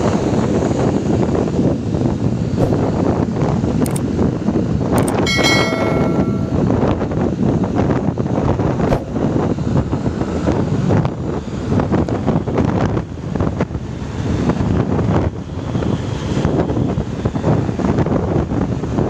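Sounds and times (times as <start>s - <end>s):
bus engine under load: 0.0s - 5.7s, 6.7s - 19.0s
wind buffeting microphone: 0.0s - 19.0s.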